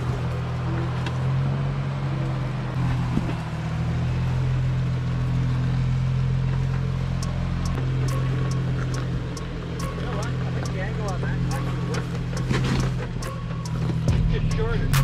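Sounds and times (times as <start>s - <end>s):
car engine running low revs: 0.0s - 15.0s.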